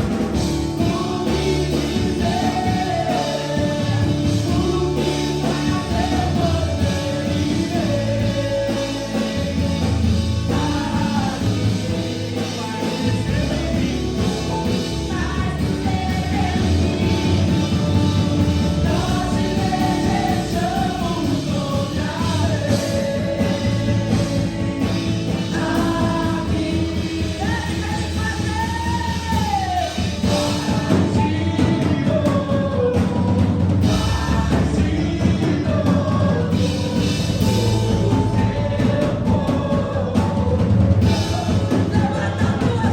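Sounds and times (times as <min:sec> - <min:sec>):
person singing: 0:00.0 - 0:42.9
worship band playing: 0:00.0 - 0:42.9.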